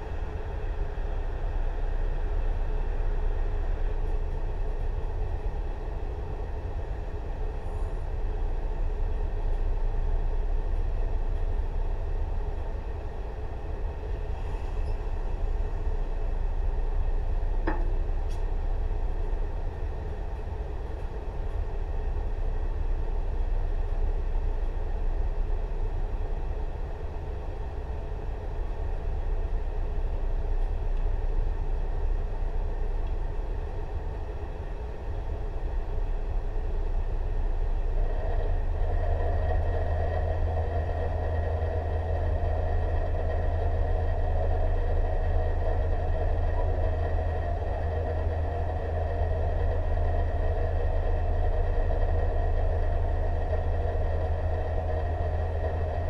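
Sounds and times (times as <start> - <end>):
electric train humming: 0.0 - 56.0.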